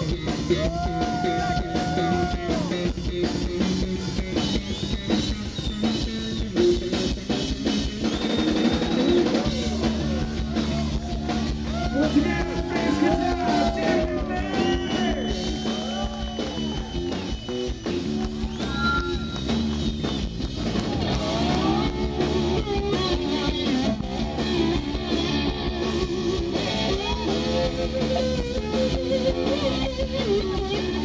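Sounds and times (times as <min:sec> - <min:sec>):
electric lead guitar bending notes: 0:00.0 - 0:31.0
hard rock band playing: 0:00.0 - 0:31.0.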